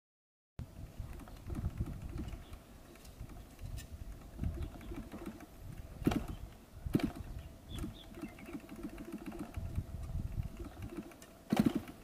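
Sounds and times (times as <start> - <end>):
wind rumbling on microphone: 0.6 - 12.0
sharp clicks: 1.1 - 12.0.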